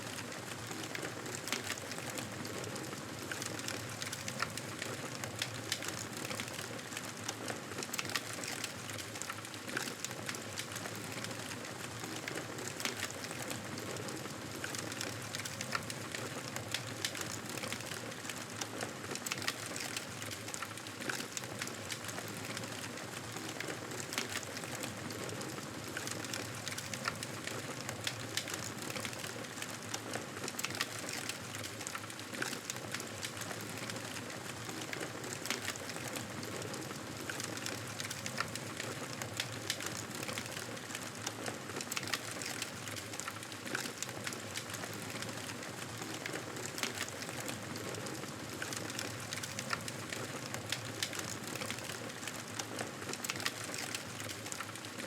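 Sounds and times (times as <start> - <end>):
campfire crackling and popping: 7.8 - 55.0.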